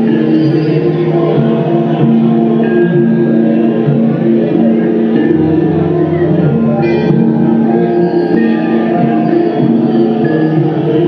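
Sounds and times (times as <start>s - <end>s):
music of sustained tones: 0.0s - 11.0s.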